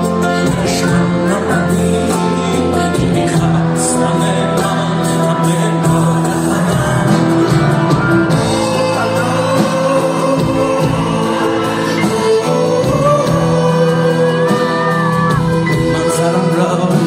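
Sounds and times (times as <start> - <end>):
electric guitar: 0.0 - 17.0
live band playing pop song: 0.0 - 17.0
man singing: 0.0 - 17.0.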